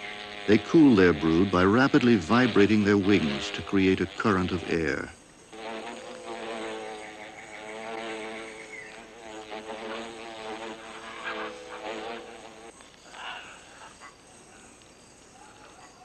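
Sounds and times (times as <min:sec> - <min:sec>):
wasp wings buzzing: 0:00.0 - 0:16.0.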